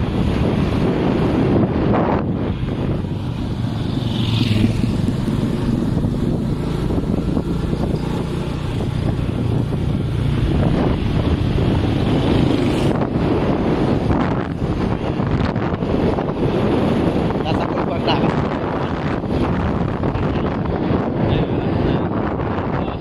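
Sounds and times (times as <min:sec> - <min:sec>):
motorcycle engine hum: 0:00.0 - 0:23.0
wind buffeting microphone: 0:00.0 - 0:23.0.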